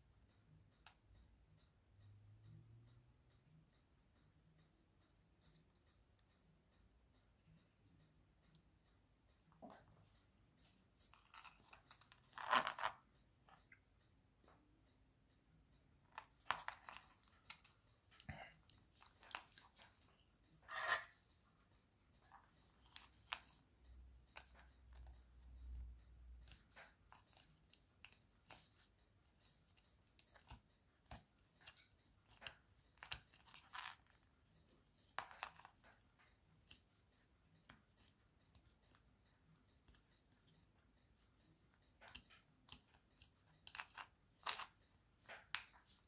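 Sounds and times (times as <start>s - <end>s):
light clicks and taps: 0.2s - 46.0s.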